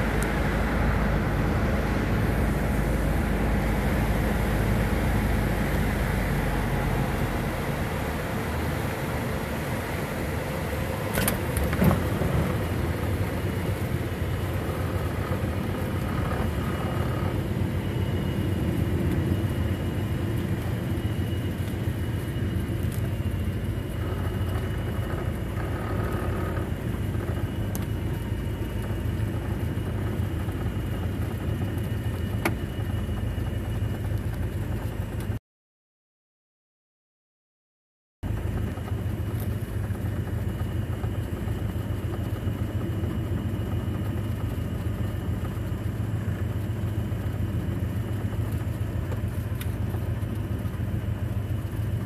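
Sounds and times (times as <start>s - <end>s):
aircraft engine and propeller: 0.0s - 35.4s, 38.2s - 52.0s.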